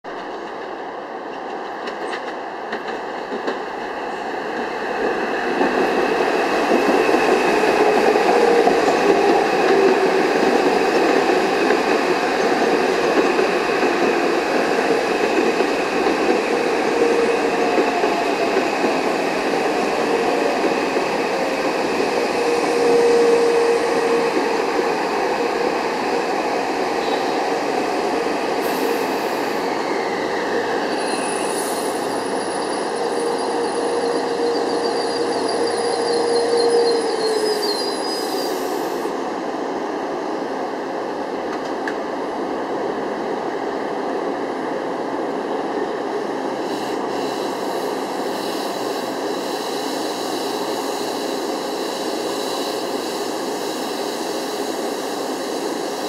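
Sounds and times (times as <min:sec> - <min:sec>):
train wheels rattling on rail: 0:00.1 - 0:39.4, 0:40.2 - 0:43.6, 0:45.2 - 0:56.0.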